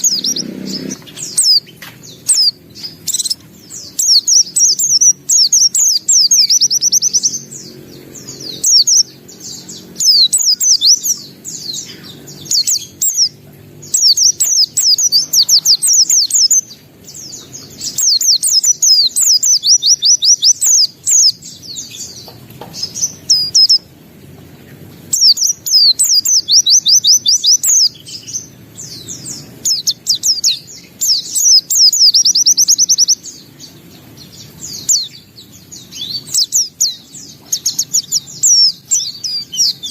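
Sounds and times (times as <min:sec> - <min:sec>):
bird singing fast high trills: 0:00.0 - 0:39.9.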